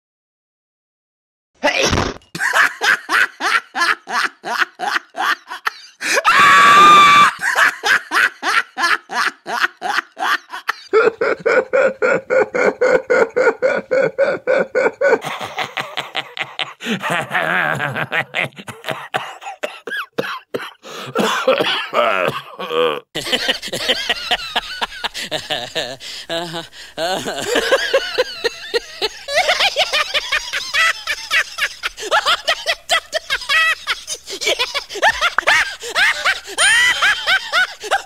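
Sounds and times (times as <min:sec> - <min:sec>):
rapid rhythmic laughter: 0:02.4 - 0:06.3, 0:07.0 - 0:22.2, 0:23.2 - 0:38.0.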